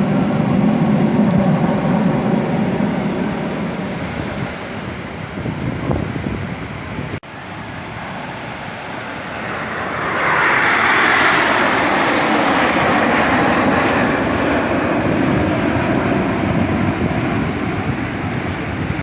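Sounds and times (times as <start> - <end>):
aircraft engine flying past: 0.0 - 19.0.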